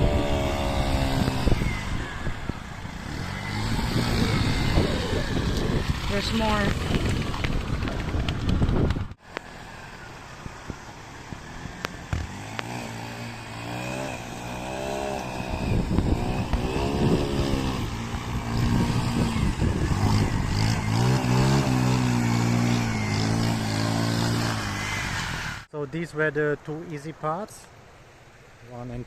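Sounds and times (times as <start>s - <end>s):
motorcycle engine revving: 0.0s - 25.7s.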